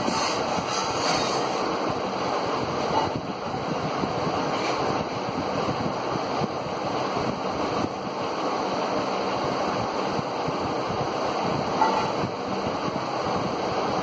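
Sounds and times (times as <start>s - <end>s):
fan blades rushing air: 0.0s - 14.0s.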